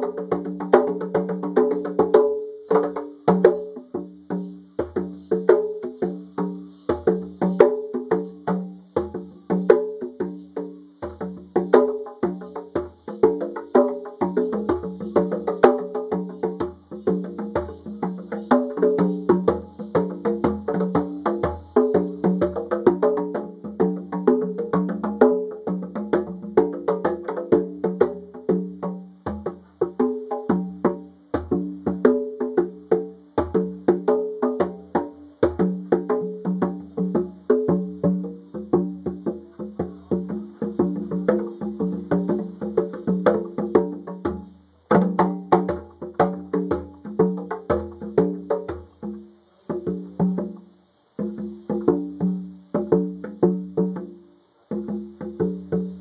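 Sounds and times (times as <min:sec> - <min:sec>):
cicadas buzzing: 0:00.0 - 0:56.0
conga drums played by hand: 0:00.0 - 0:56.0.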